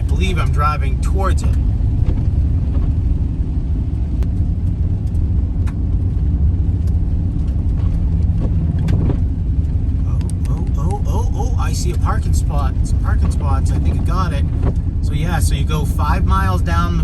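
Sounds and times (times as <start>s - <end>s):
van engine and tyres rumbling: 0.0s - 17.0s.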